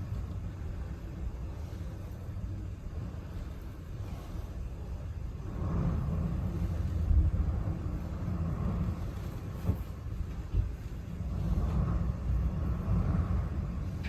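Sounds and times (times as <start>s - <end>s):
low uneven rumble with hiss: 0.0s - 14.0s.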